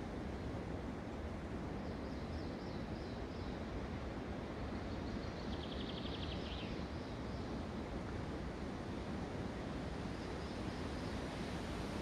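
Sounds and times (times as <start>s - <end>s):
wind through forest: 0.0s - 12.0s.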